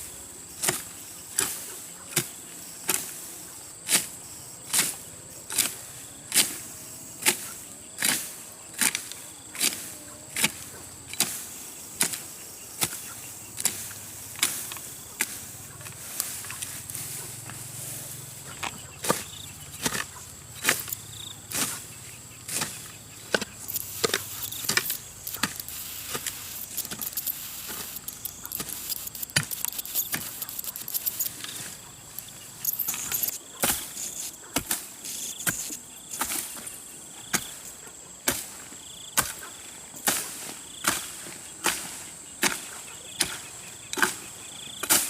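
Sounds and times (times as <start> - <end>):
blade chopping into soil: 0.6 - 3.2, 3.9 - 6.6, 7.2 - 17.6, 18.6 - 36.7, 38.2 - 38.6, 39.2 - 43.4, 44.0 - 44.2, 44.8 - 45.0.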